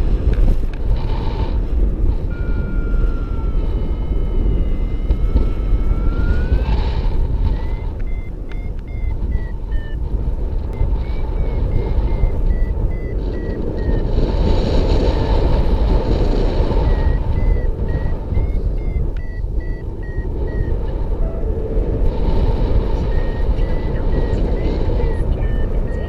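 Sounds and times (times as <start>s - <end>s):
wind on microphone: 0.0s - 26.0s
variometer beeping: 1.7s - 26.0s.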